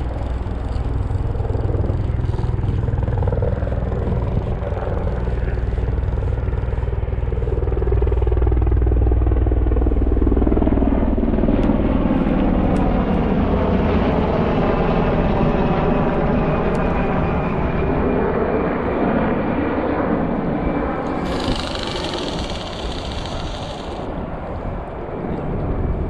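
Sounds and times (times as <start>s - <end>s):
helicopter rotor beating: 0.0s - 26.0s.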